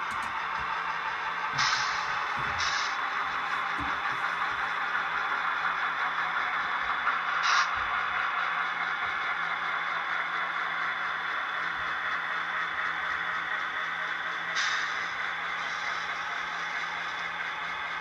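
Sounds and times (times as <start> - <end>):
model train whirring: 0.0 - 18.0.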